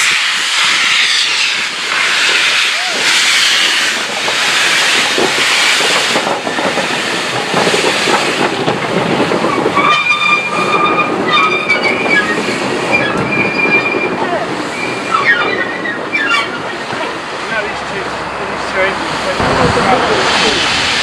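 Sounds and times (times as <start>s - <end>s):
train wheels clattering: 0.0s - 21.0s.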